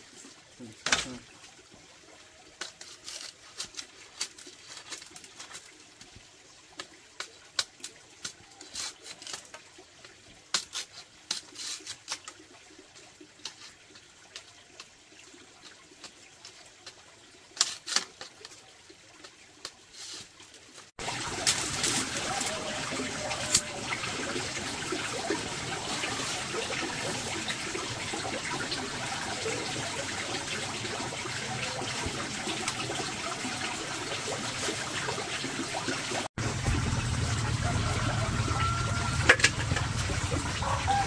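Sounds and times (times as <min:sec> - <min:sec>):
faint water trickle: 0:00.0 - 0:39.2.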